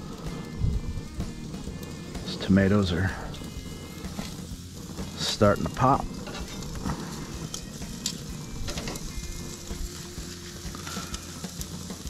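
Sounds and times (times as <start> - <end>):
fat crackling and popping: 0.0 - 12.0
meat sizzling on a grill: 0.0 - 12.0.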